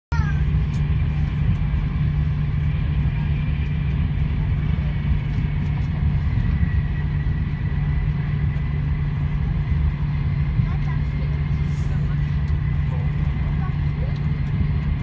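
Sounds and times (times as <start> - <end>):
train rumble inside carriage: 0.1 - 15.0.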